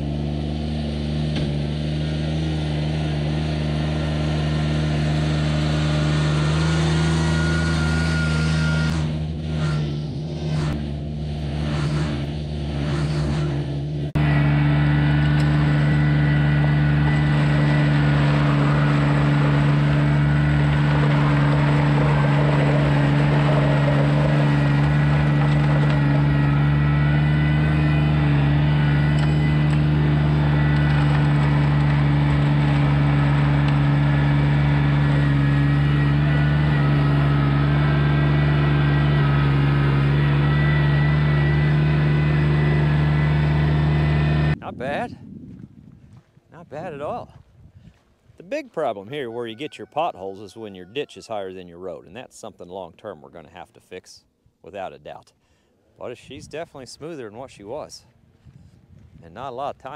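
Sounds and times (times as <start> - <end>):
tractor diesel engine under load: 0.0 - 45.1, 56.0 - 59.9.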